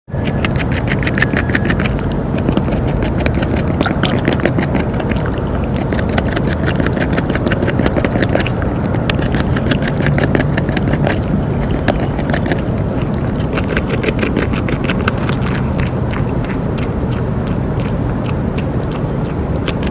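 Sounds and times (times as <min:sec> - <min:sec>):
beaver gnawing wood: 0:00.1 - 0:19.9.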